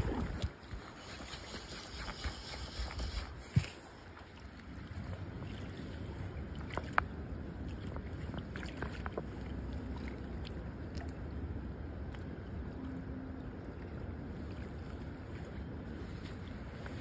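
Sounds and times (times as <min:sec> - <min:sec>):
moving water: 0:00.0 - 0:17.0.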